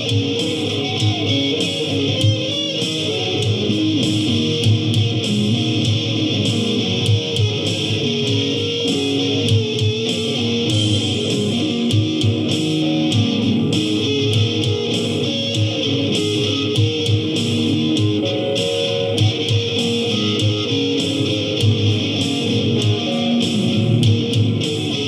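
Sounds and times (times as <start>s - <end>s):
electric guitar rock song: 0.0s - 25.0s.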